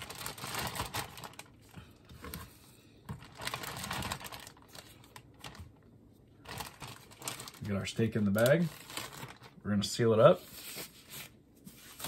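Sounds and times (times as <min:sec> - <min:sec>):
plastic bag crinkling: 0:00.0 - 0:02.4, 0:03.1 - 0:12.0.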